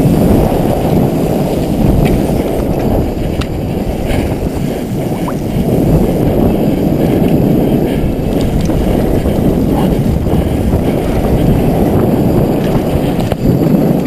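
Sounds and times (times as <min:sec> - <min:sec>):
bike rattling over rough ground: 0:00.0 - 0:14.0
tyre noise: 0:00.0 - 0:14.0
wind rumble on microphone: 0:00.0 - 0:14.0.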